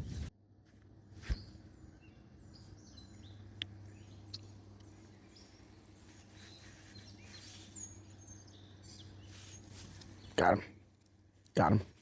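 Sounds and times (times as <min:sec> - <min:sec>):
steady low hum: 0:00.0 - 0:12.0
faint birds chirping: 0:00.9 - 0:12.0.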